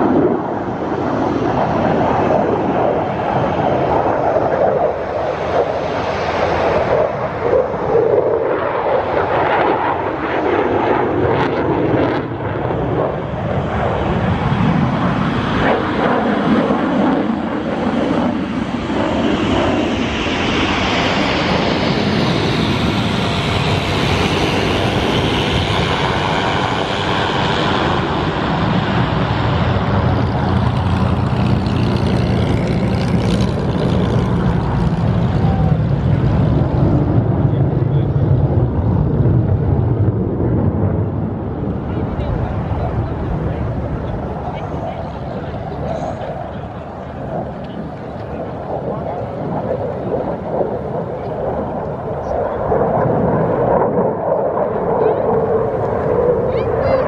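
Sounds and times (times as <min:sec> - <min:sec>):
jet engine with afterburner: 0:00.0 - 0:57.0.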